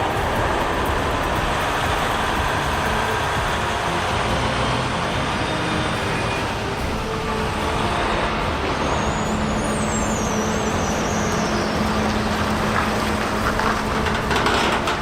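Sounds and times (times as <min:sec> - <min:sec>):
heavy truck engine humming: 0:00.0 - 0:15.0
thin high squeal: 0:00.0 - 0:15.0.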